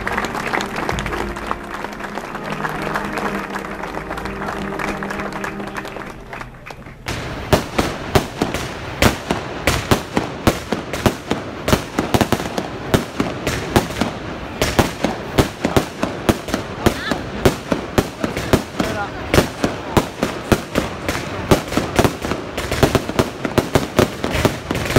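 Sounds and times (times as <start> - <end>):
fireworks bangs and crackles: 0.0 - 6.1, 6.9 - 24.9.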